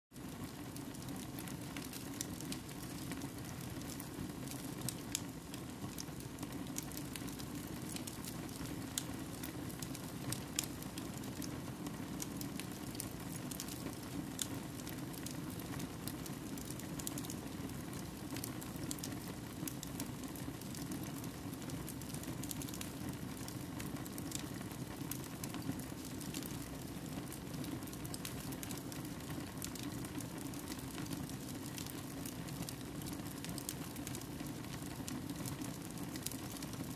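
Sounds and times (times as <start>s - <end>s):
wood fire crackling: 0.2s - 36.9s.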